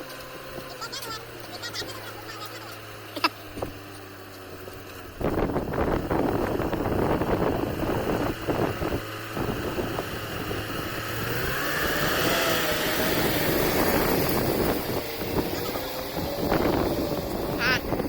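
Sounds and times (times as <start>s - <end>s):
drilling rig rumbling: 0.0s - 18.0s.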